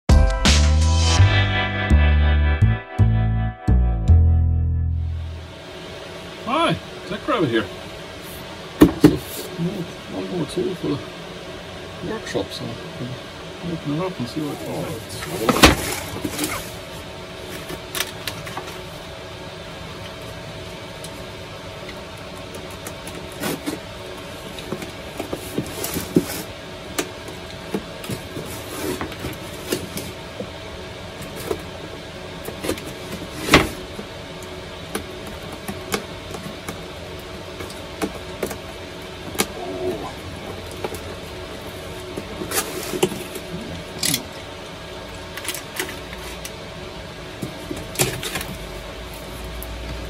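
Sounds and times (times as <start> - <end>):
faint steady hum: 3.0 - 50.0.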